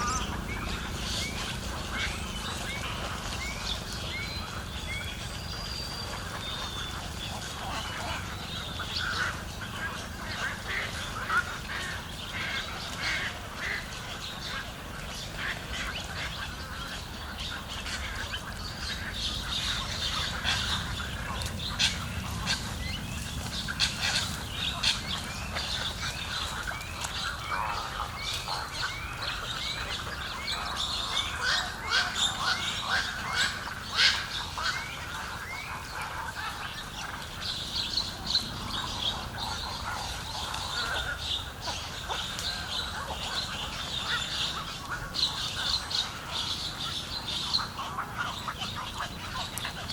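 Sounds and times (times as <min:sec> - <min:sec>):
wild birds squawking and chirping: 0:00.0 - 0:49.9.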